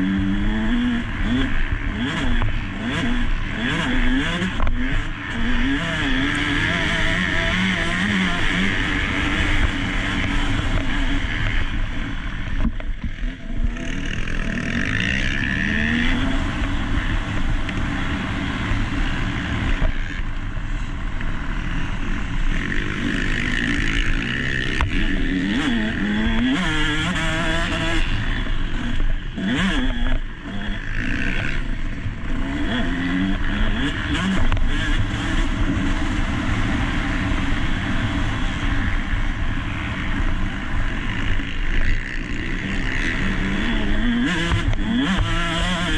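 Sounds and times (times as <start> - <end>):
dirt bike engine revving: 0.0 - 45.9
rush of wind noise: 0.0 - 45.9.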